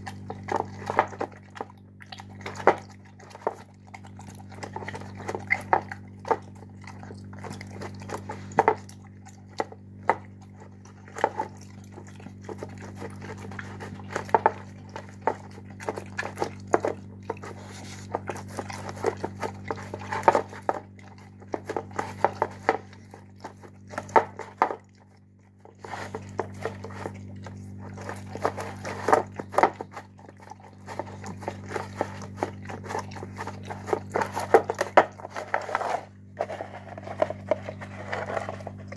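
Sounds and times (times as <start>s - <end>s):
dog chewing wet food: 0.0s - 38.9s
steady low hum: 0.0s - 38.9s.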